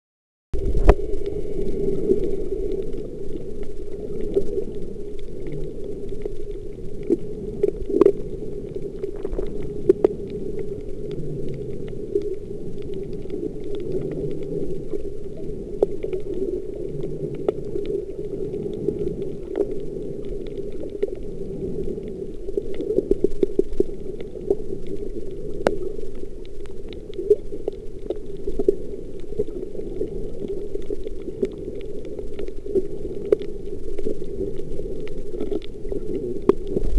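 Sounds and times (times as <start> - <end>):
underwater clicks and crackles: 0.6 - 36.9
underwater water rumble: 0.6 - 36.9.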